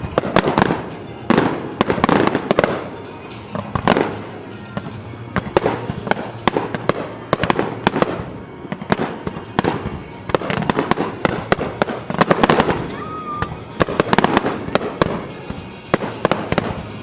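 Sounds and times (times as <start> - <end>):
fireworks shells bursting: 0.0 - 17.0.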